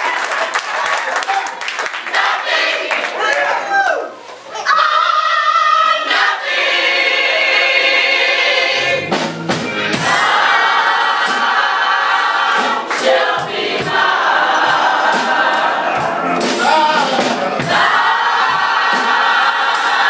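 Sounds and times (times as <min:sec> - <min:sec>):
choir singing: 0:02.0 - 0:03.5, 0:04.6 - 0:09.3, 0:09.9 - 0:20.0.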